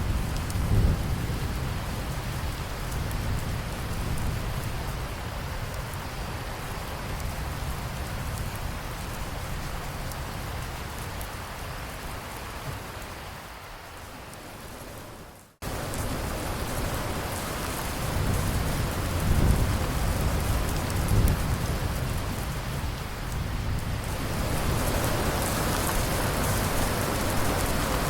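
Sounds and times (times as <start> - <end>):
thunder rumble: 0.0 - 11.0, 14.4 - 28.0
heavy rain: 0.0 - 28.0.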